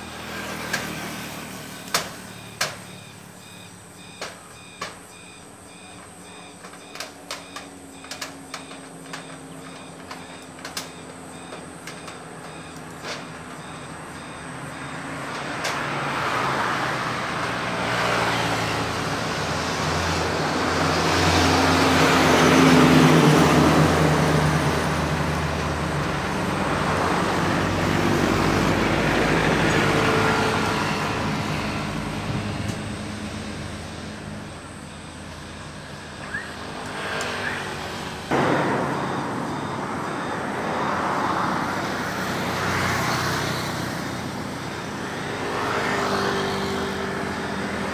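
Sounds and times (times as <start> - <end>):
vehicles passing: 0.0 - 47.9.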